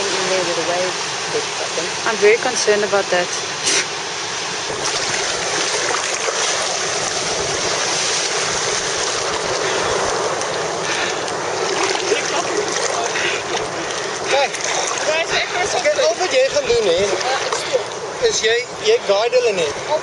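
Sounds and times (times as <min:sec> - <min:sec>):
waves and river water rushing: 0:00.0 - 0:20.0.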